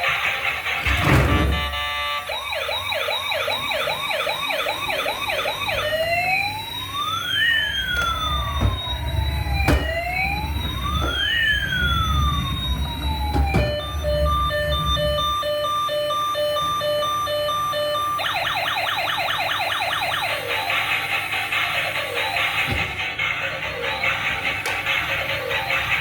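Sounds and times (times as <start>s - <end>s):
electronic siren yelp and wail: 0.0s - 26.0s.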